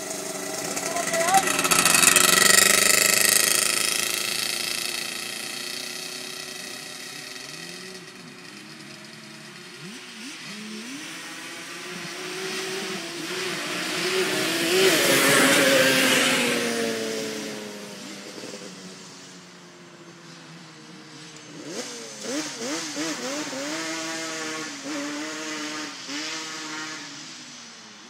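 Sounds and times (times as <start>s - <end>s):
quad engine revving: 0.0s - 19.5s, 21.4s - 27.4s.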